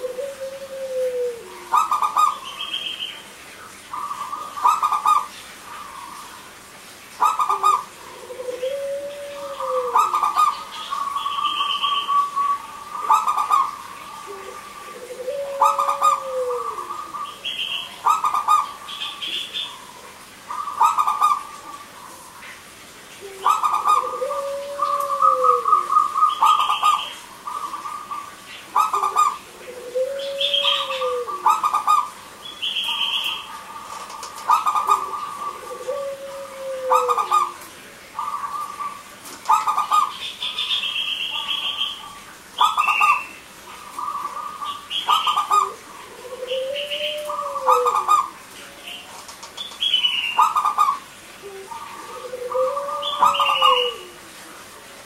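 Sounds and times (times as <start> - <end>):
doves cooing: 0.0 - 3.1, 3.9 - 22.5, 23.2 - 55.0.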